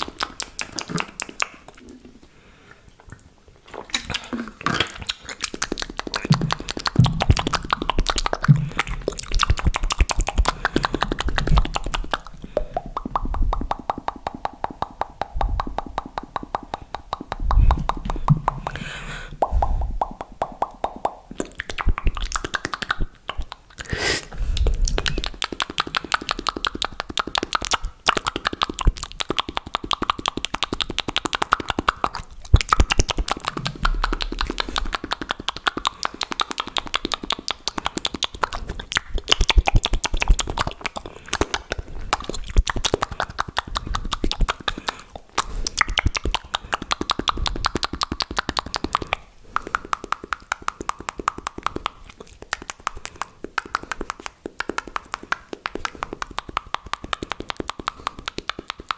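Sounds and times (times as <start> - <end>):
wet mouth clicks and smacking: 0.0 - 58.9.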